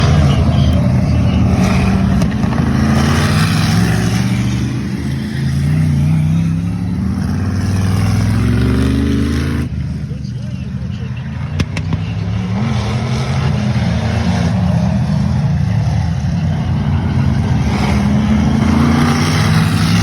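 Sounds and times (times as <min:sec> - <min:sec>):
stock car engines racing: 0:00.0 - 0:20.0.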